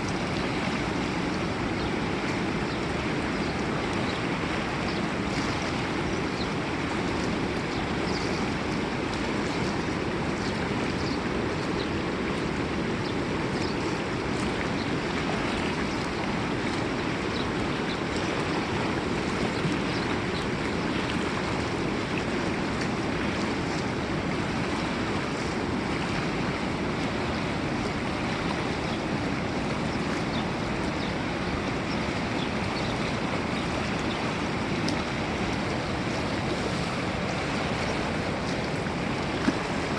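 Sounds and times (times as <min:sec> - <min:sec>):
river water rushing: 0:00.0 - 0:39.9
small water splashes: 0:00.0 - 0:39.9.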